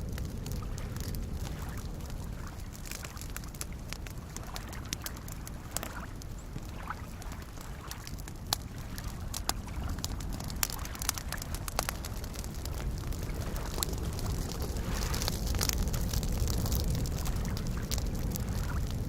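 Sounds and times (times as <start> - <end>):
campfire crackling: 0.0 - 19.0
small waves lapping: 0.5 - 18.8.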